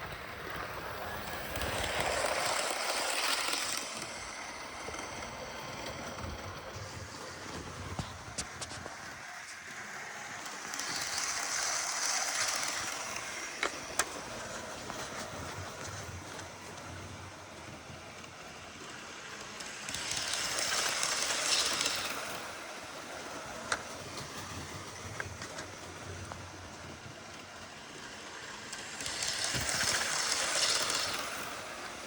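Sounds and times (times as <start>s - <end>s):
model train rattling on track: 0.0s - 32.0s
wheels clicking over rail joints: 0.0s - 32.0s.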